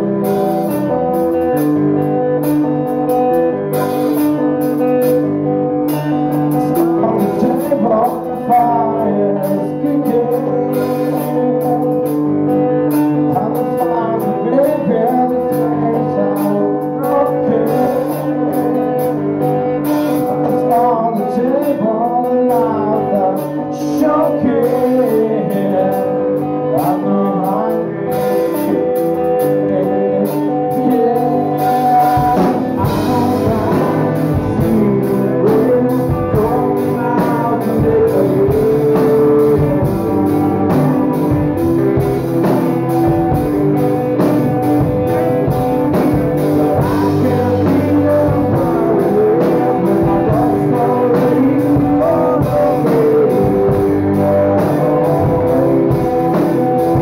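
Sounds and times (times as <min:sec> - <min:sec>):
man singing: 0:00.0 - 0:02.4, 0:06.2 - 0:57.0
drums: 0:00.0 - 0:57.0
electric guitar chords: 0:00.0 - 0:57.0.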